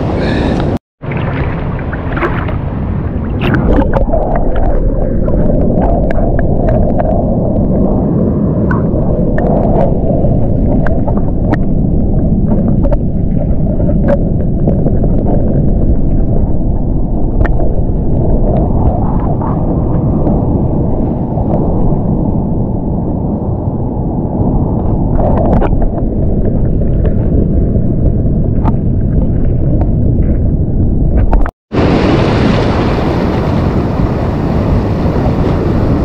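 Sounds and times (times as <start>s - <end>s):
wind and surf rumble: 0.0s - 36.0s.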